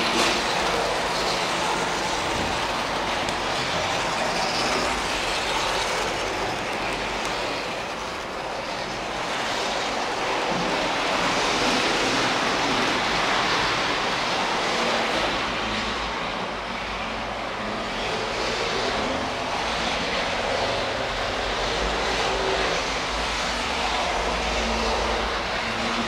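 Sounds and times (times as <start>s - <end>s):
model train whirring on rails: 0.0s - 26.0s.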